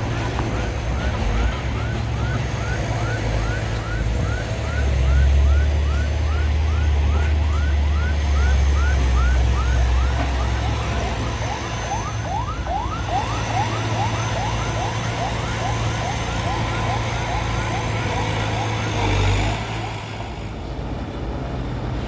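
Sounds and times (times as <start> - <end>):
heavy vehicle engine rumbling: 0.0 - 22.0.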